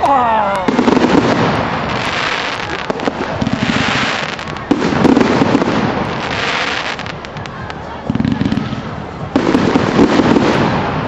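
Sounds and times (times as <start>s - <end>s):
fireworks crackling and popping: 0.5s - 11.0s
firework bang: 0.7s - 11.0s.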